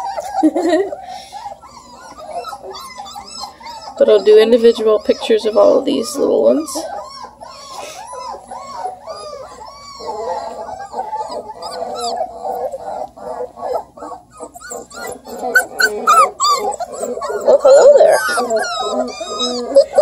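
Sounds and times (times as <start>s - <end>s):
puppies whining and crying: 0.0s - 20.0s
puppies yelping: 0.0s - 20.0s.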